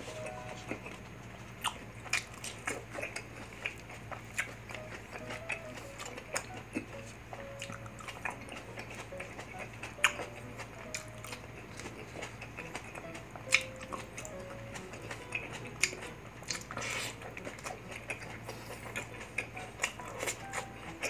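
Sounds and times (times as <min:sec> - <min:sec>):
person chewing food: 0:00.0 - 0:21.0
quiet background music: 0:00.0 - 0:21.0.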